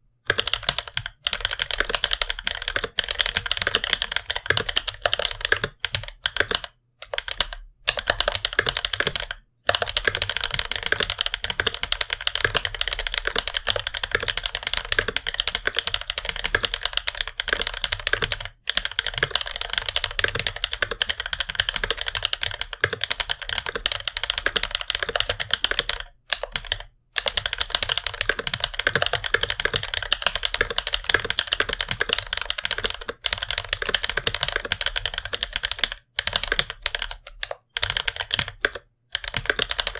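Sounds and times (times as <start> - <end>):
fast typing on mechanical keyboard: 0.3 - 39.9.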